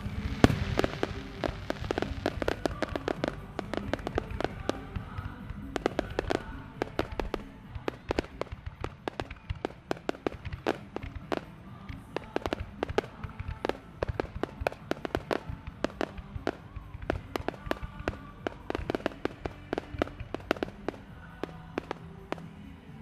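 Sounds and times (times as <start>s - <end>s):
fireworks bangs and crackles: 0.0s - 23.0s
music playing: 0.0s - 23.0s.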